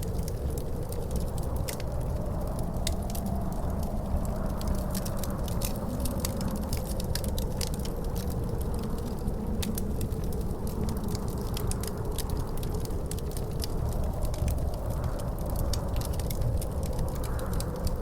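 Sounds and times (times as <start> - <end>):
wind rumbling and howling: 0.0 - 18.0
wood fire crackling: 0.0 - 18.0.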